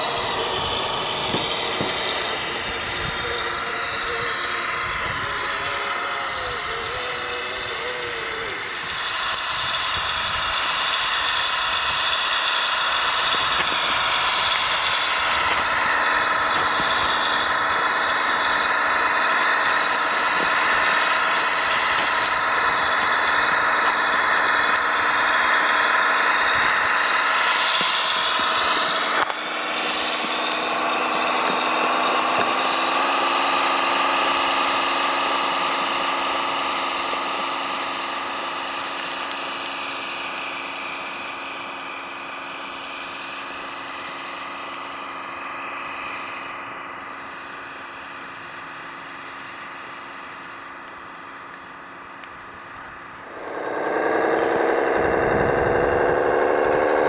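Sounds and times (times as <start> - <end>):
model motor running: 0.0 - 57.0.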